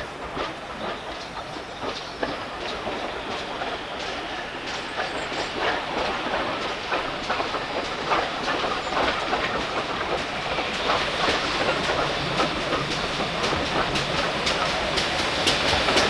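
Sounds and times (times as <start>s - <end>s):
train clattering along tracks: 0.0s - 16.0s.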